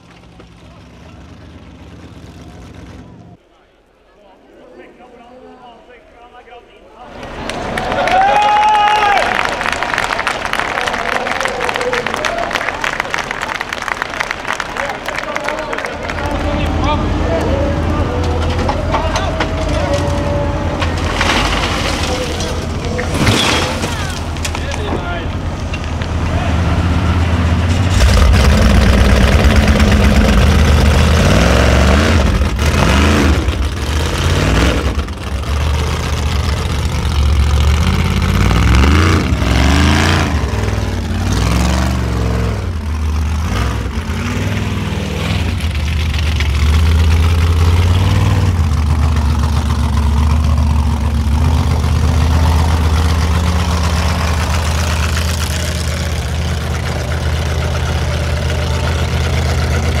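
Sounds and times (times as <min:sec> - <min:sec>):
buggy engine revving: 0:00.0 - 0:03.4, 0:09.4 - 1:00.0.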